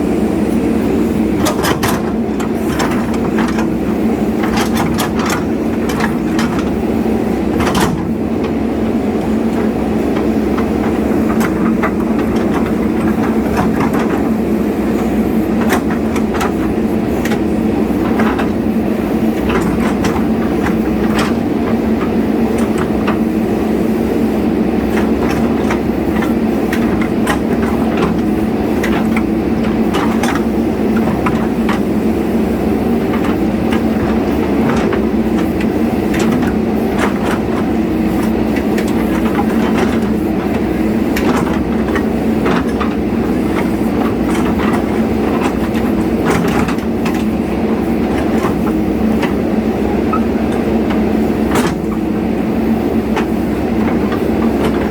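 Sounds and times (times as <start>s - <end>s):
diesel engine running: 0.0s - 54.9s
irregular clanks and clicks: 1.4s - 6.8s, 7.4s - 23.4s, 24.8s - 32.1s, 32.9s - 52.3s, 52.9s - 54.9s.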